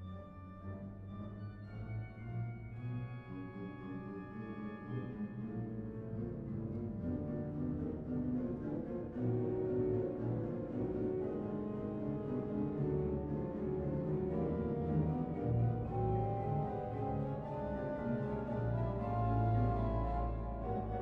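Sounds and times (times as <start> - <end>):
instrumental background music: 0.0 - 21.0.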